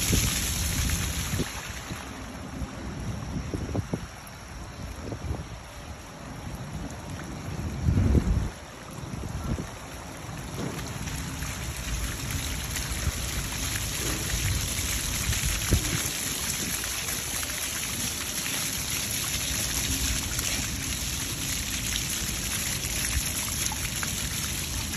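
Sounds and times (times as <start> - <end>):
water jets spraying on paving: 0.0 - 24.9.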